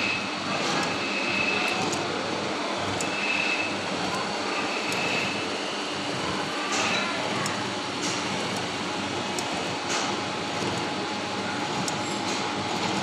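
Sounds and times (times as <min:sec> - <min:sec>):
high machine whine: 0:00.0 - 0:13.0
metalworking machine rushing noise: 0:00.0 - 0:13.0.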